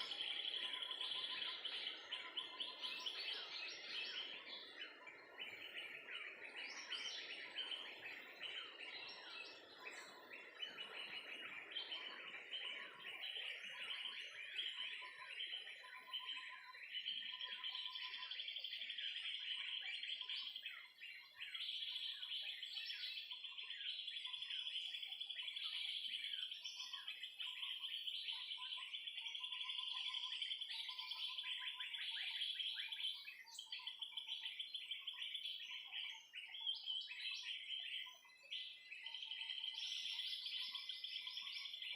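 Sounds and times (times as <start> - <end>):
birds chirping and calling: 0.0 - 41.9.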